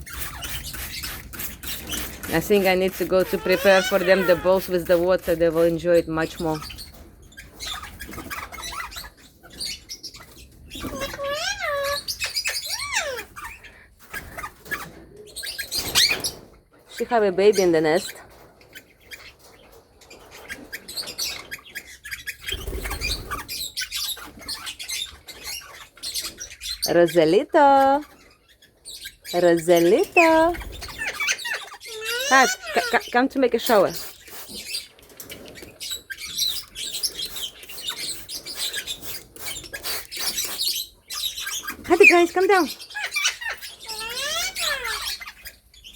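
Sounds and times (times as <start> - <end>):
parrots chirping: 0.0 - 45.9.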